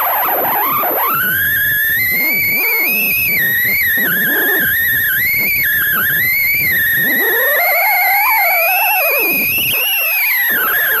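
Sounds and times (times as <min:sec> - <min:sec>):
wavering high whine: 0:00.0 - 0:11.0.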